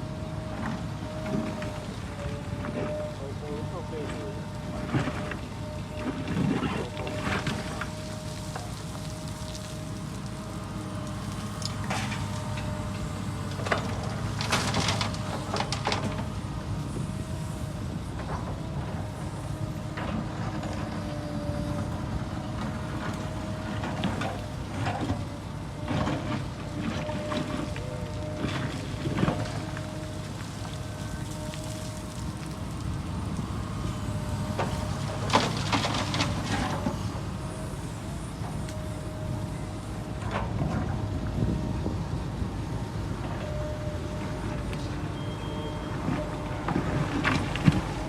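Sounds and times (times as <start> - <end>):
diesel machinery whining: 0.0 - 48.0.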